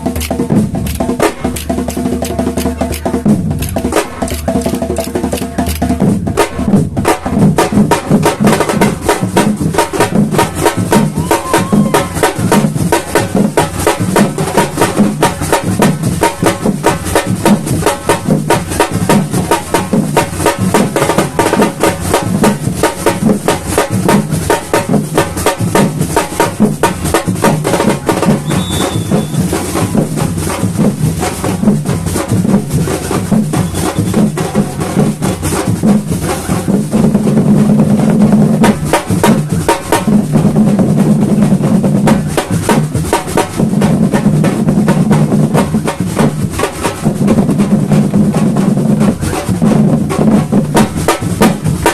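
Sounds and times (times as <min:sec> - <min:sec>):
samba drum section playing: 0:00.0 - 0:51.9.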